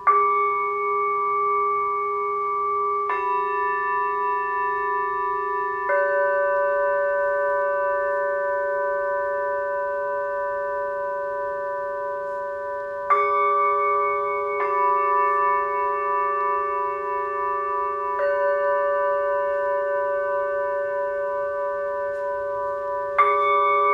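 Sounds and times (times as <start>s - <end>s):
singing bowls ringing: 0.0s - 23.9s.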